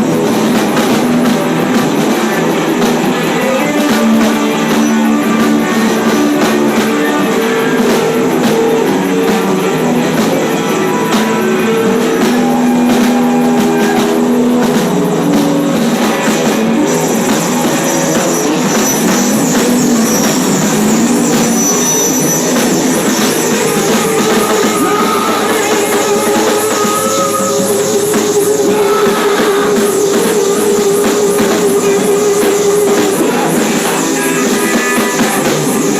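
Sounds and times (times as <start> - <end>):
electric guitar noise music: 0.0 - 35.9.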